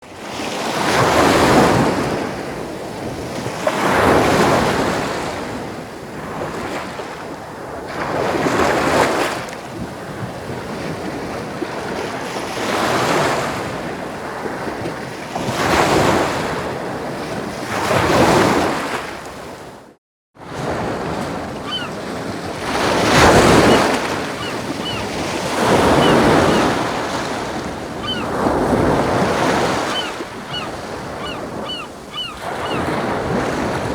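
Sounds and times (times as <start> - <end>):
ocean waves breaking on shore: 0.1 - 33.9.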